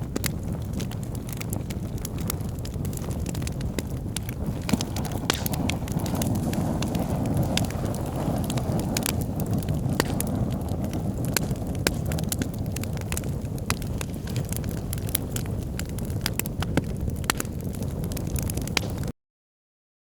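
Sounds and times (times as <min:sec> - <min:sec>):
fire flames rumbling: 0:00.0 - 0:19.1
logs crackling and popping: 0:00.0 - 0:19.1.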